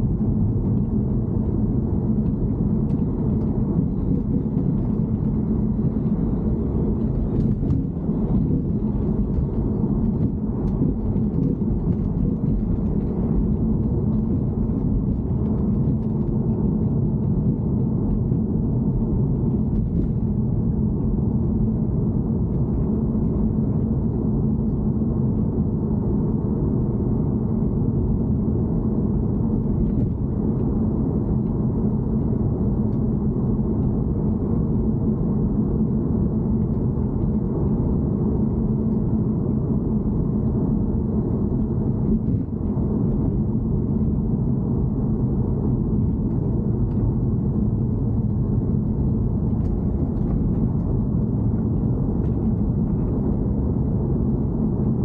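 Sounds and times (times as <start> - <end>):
low rumble with droning hum: 0.0 - 55.0.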